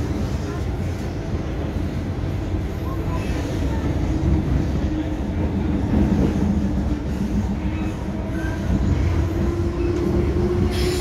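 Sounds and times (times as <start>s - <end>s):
low train hum: 0.0s - 11.0s
train wheels rumbling on rail: 0.0s - 11.0s.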